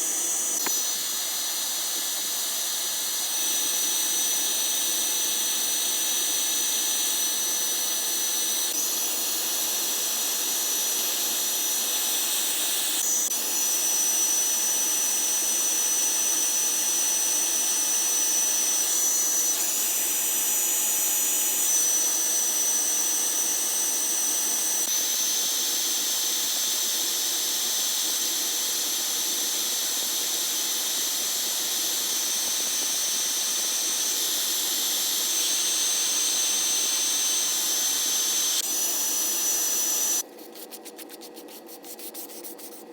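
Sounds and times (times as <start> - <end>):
repair tools hissing and whining: 0.0 - 40.3.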